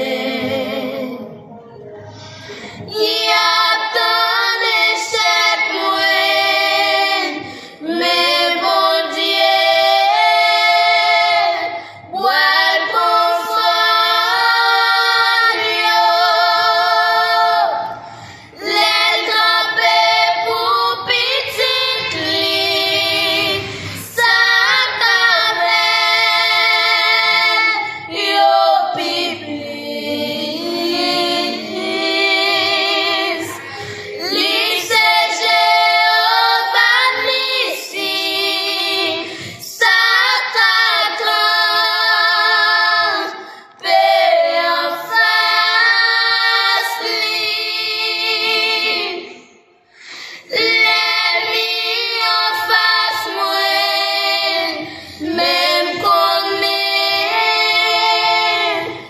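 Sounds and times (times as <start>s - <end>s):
girls singing gospel song: 0.0s - 59.0s.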